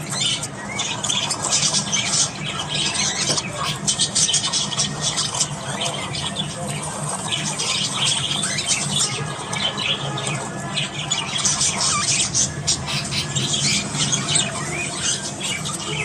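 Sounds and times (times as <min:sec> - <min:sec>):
budgerigars chattering: 0:00.0 - 0:16.0
steady low hum: 0:00.0 - 0:16.0.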